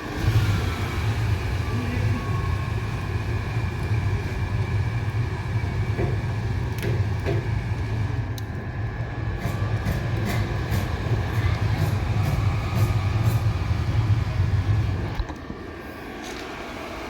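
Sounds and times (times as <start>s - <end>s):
fire rumbling in boiler: 0.0s - 17.0s.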